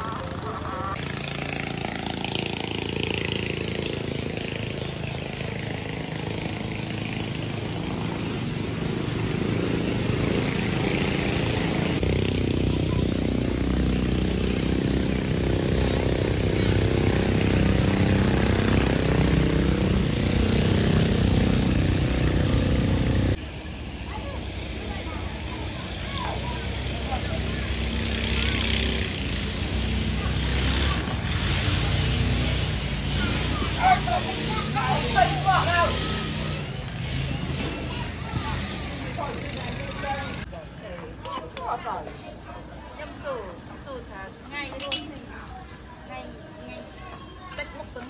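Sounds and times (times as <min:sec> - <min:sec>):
motor engine running: 0:00.0 - 0:40.5.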